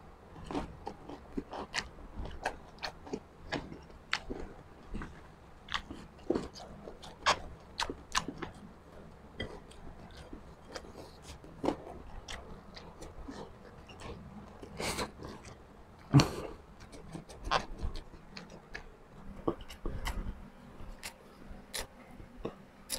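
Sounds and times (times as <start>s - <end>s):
chewing crunchy fried food: 0.3s - 22.9s.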